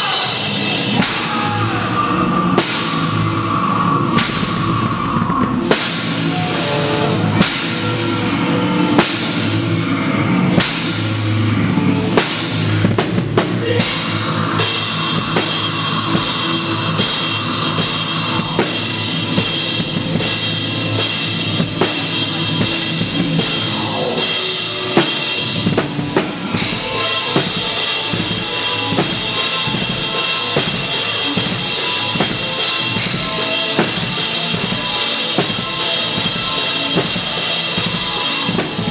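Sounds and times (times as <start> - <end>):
live rock band: 0.0 - 38.9.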